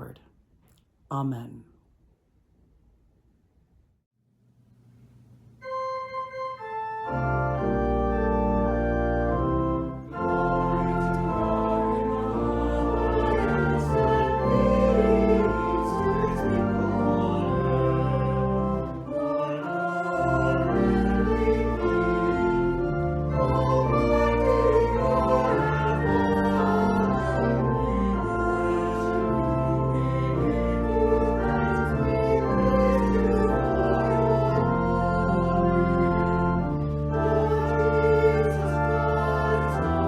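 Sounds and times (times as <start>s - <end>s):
church organ chords: 5.6s - 40.0s
deep organ pedal bass: 5.6s - 40.0s.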